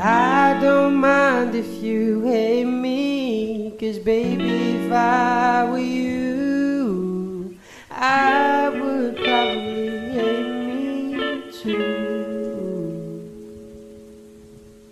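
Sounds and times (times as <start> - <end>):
plucked guitar: 0.0 - 3.0, 4.1 - 14.9
man singing with vibrato: 0.0 - 13.6.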